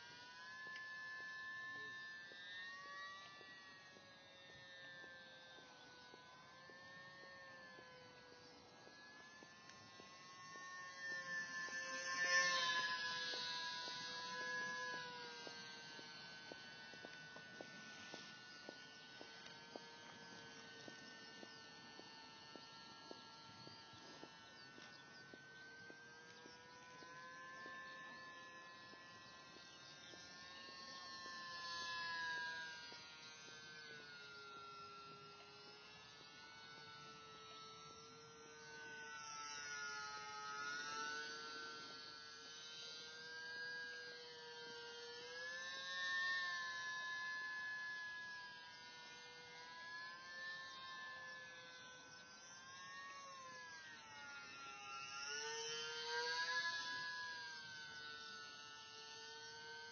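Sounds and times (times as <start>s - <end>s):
model plane motor whine: 0.0s - 59.9s.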